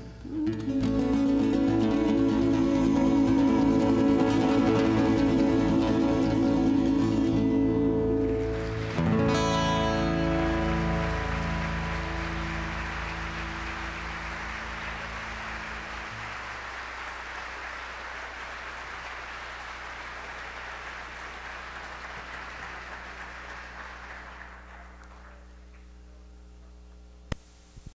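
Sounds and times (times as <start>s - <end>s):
low electrical hum: 0.0s - 28.0s
audience applause: 0.8s - 25.9s.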